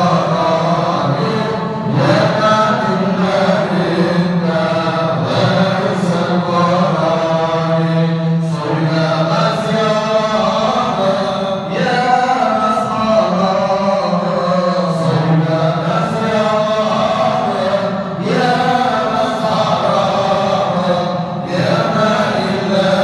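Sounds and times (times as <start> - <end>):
man chanting a hymn: 0.0 - 23.0.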